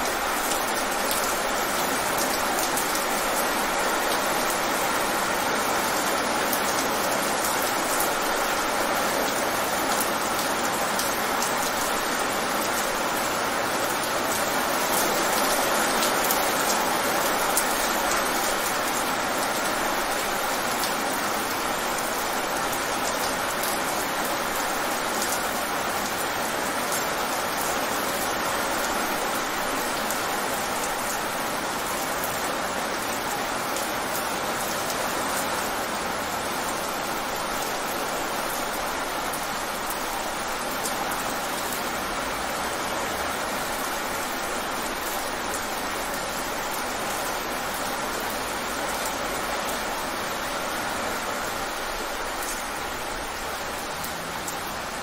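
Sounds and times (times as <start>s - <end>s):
rain on wet pavement: 0.0s - 55.0s.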